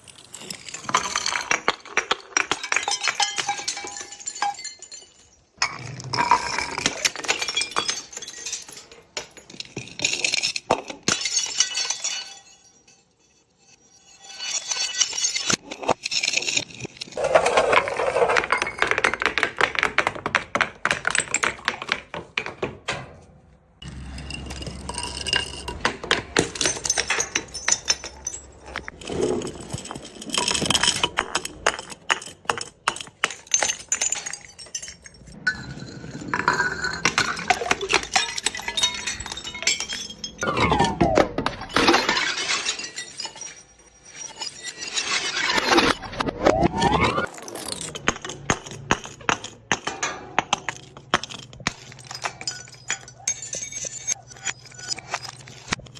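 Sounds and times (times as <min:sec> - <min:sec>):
glass bottles shattering: 0:00.0 - 0:22.6, 0:23.8 - 0:55.9.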